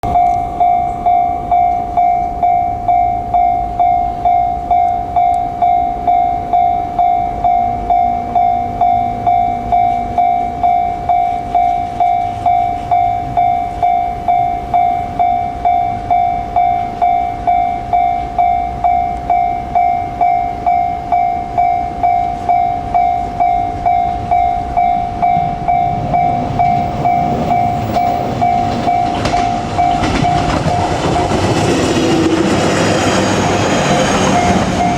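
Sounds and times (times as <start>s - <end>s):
level crossing bell ringing: 0.0s - 31.7s
low rumble of approaching train: 0.0s - 34.9s.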